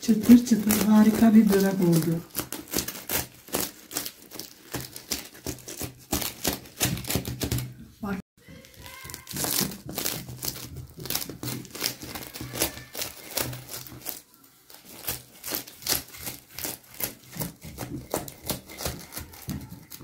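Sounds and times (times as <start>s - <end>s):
knife crunching through crisp crust: 0.0s - 7.7s, 8.5s - 20.0s.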